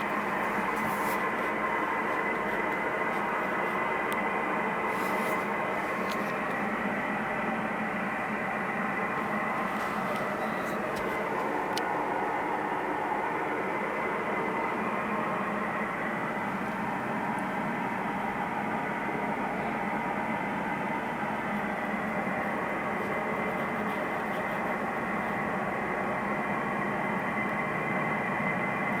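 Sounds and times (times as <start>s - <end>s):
droning din from the sky: 0.0s - 29.0s.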